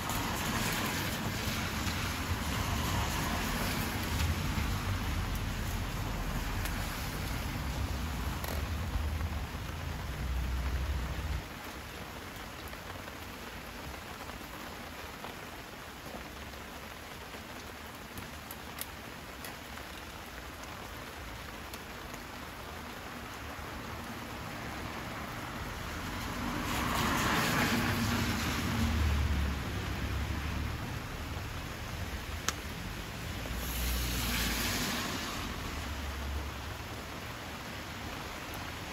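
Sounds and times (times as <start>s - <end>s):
rain pattering: 0.0s - 38.9s
wood fire crackling: 0.0s - 38.9s.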